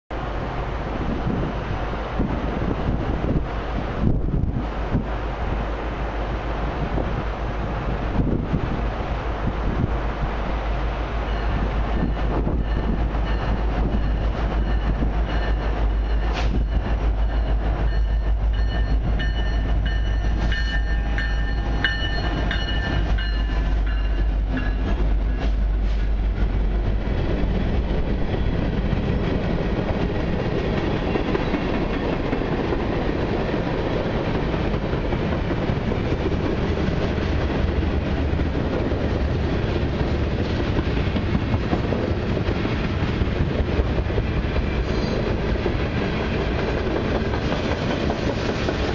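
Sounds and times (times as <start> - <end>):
diesel locomotive rumble: 0.1 - 48.9
train cars rolling on rails: 0.1 - 48.9.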